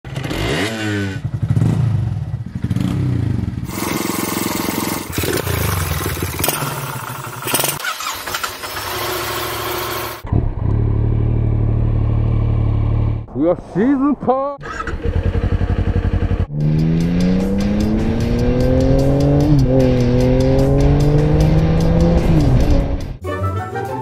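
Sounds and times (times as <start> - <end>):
motorcycle engines revving: 0.1 - 13.3, 14.6 - 23.2.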